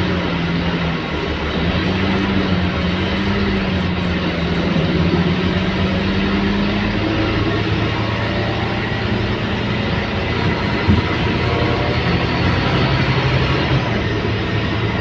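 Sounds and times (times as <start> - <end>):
bus diesel engine droning: 0.0 - 15.0
road noise: 0.0 - 15.0.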